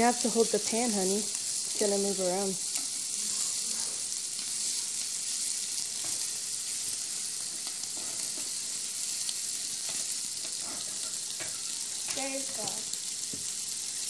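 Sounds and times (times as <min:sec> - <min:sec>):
bacon sizzling in a pan: 0:00.0 - 0:14.0.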